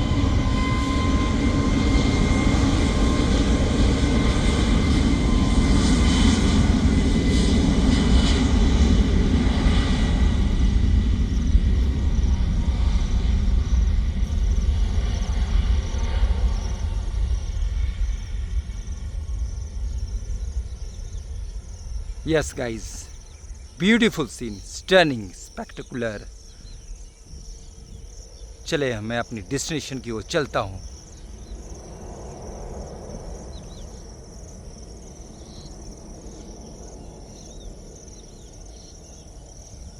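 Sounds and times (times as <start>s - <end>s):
insects chirping: 0.0s - 39.9s
jet engines rumbling: 0.0s - 39.9s.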